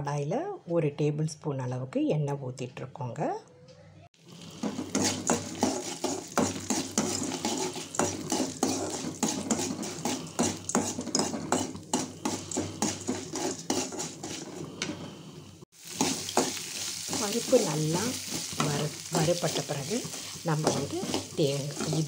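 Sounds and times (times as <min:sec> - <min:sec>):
metal ladle scraping a pan: 0:04.2 - 0:22.0.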